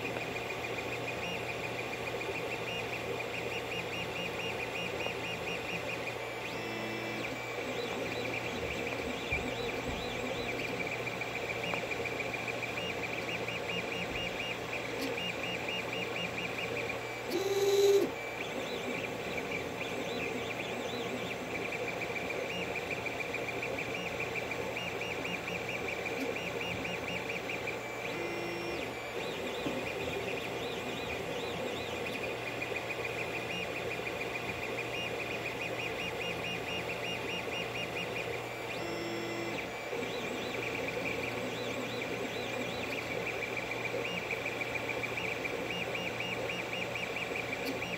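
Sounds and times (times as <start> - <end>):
printer steady hum: 0.0 - 47.9
stepper motors chirping pulses: 0.0 - 47.9.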